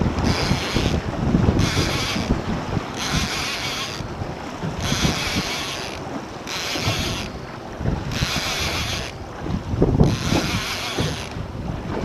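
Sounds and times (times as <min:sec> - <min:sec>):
wind buffeting microphone: 0:00.0 - 0:12.0
fishing reel whirring: 0:00.2 - 0:04.1, 0:04.8 - 0:09.2, 0:10.0 - 0:11.4.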